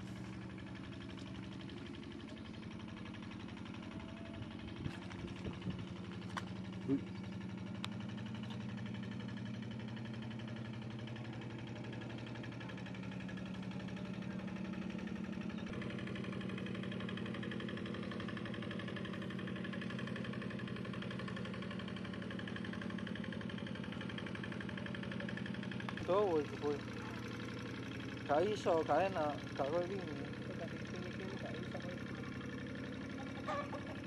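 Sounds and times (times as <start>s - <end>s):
small engine running: 0.0s - 34.0s.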